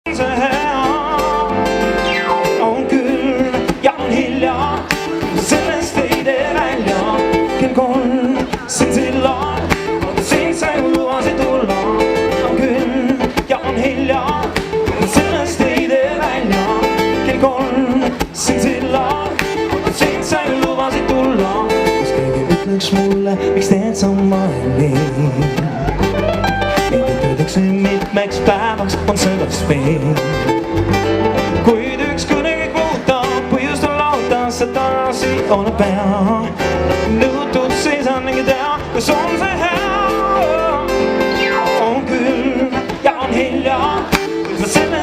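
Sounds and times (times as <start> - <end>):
live band music with guitar: 0.0 - 45.0.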